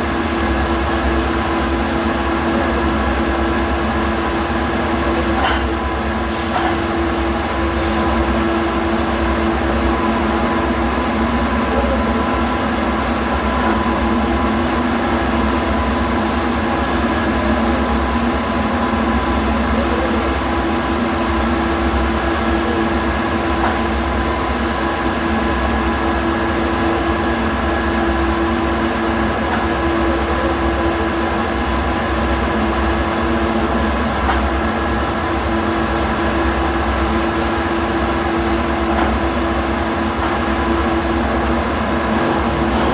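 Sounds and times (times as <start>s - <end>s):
machinery hum: 0.0s - 42.9s.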